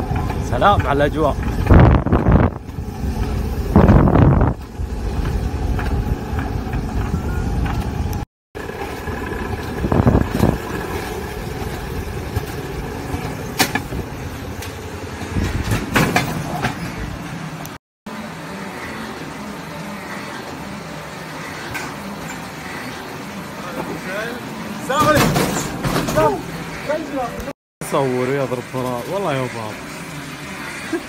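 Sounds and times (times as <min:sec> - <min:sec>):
coaster cart rumbling on track: 0:00.0 - 0:31.0.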